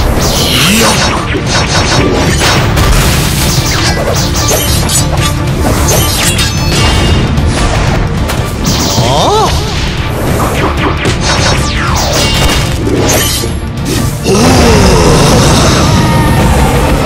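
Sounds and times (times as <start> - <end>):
dramatic soundtrack music: 0.0 - 17.0.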